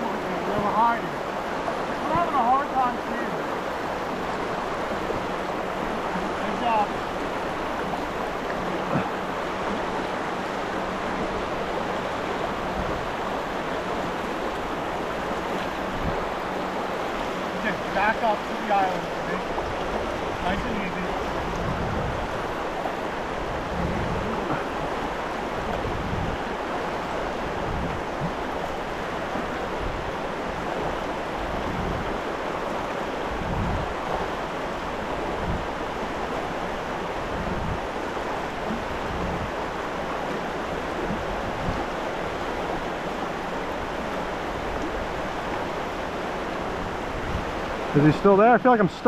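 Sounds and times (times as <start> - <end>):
river water rushing: 0.0 - 49.0
wind buffeting microphone: 3.4 - 48.0.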